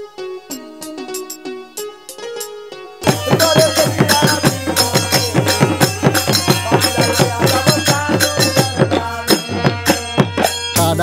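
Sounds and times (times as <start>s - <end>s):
upbeat song with fast percussion: 2.0s - 11.0s.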